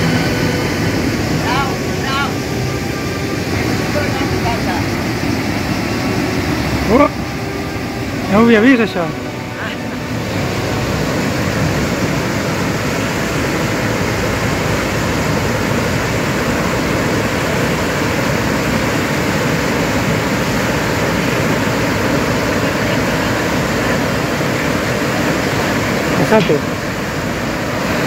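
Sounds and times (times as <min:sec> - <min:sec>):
water rushing through sluices: 0:00.0 - 0:28.0.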